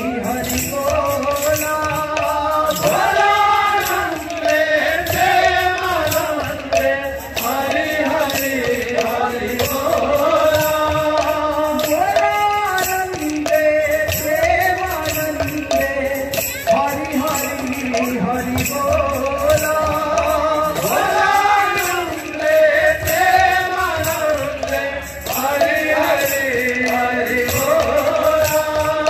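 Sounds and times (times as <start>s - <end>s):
men singing chant in chorus: 0.0s - 29.0s
small hand cymbals: 0.0s - 29.0s.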